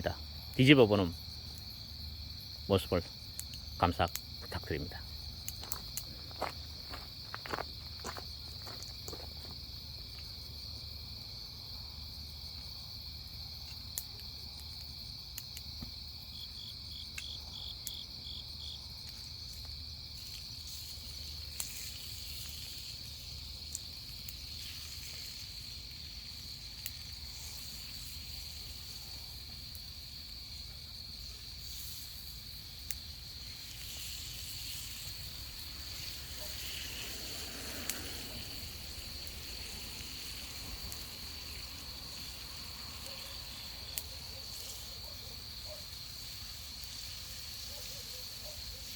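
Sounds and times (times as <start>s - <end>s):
crickets trilling: 0.0s - 48.9s
insect chirping: 0.0s - 48.9s.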